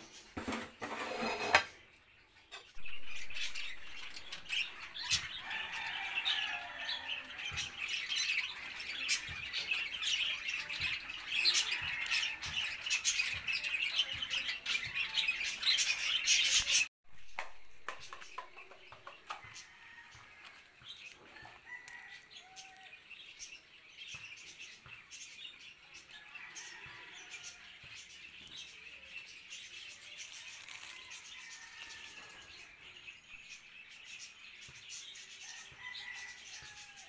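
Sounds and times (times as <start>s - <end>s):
birds squawking and chirping: 0.0s - 37.0s.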